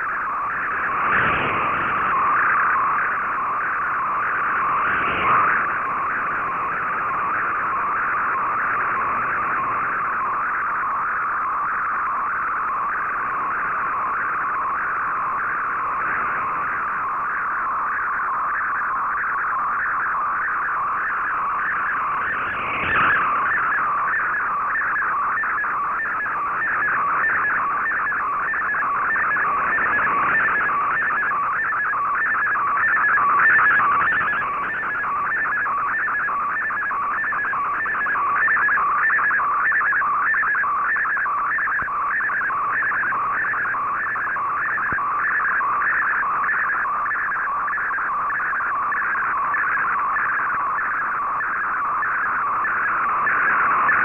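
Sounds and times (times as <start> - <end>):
warbling data signal tone: 0.0 - 54.0.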